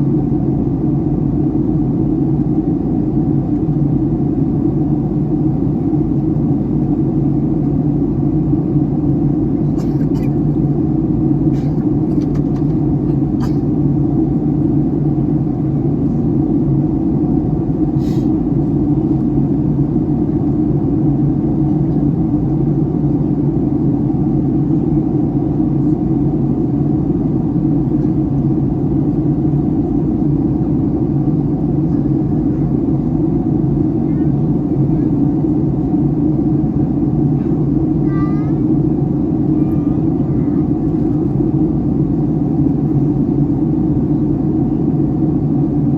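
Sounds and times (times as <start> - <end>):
airplane cabin engine drone: 0.0 - 45.9.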